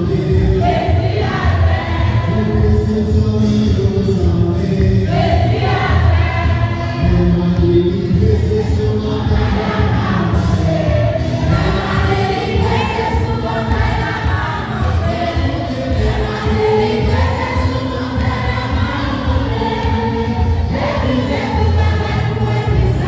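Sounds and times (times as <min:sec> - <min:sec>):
choir singing a hymn: 0:00.0 - 0:03.1, 0:04.6 - 0:23.0.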